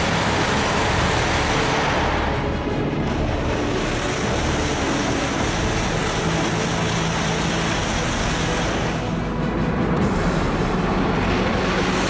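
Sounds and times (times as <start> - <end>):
high-speed train rushing past: 0.0 - 12.0.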